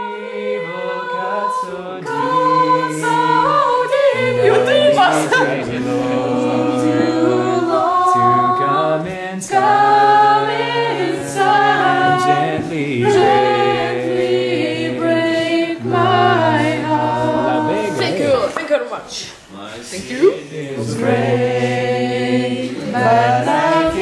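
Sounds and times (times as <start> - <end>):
group singing slow worship song: 0.0 - 18.6, 19.4 - 24.0.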